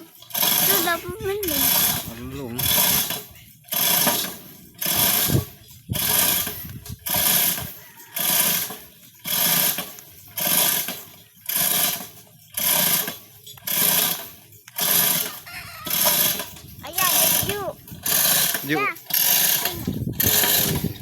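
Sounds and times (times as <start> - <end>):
mechanical ratcheting: 0.0 - 21.0.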